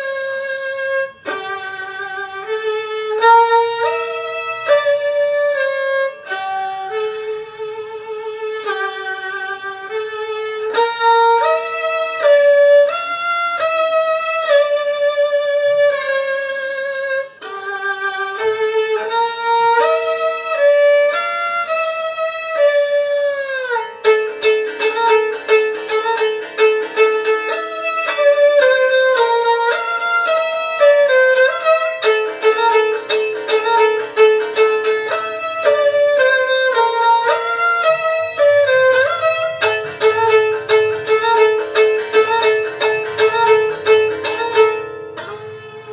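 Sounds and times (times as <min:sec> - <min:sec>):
solo violin melody: 0:00.0 - 0:45.9.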